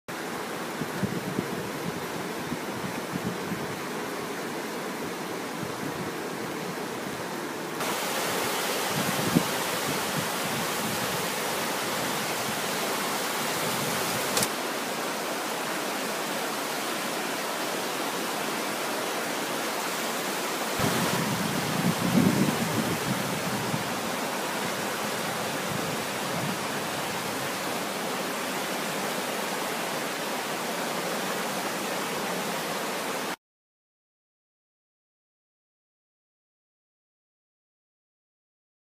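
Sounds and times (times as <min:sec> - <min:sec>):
river rushing in spate: 0:00.1 - 0:33.4.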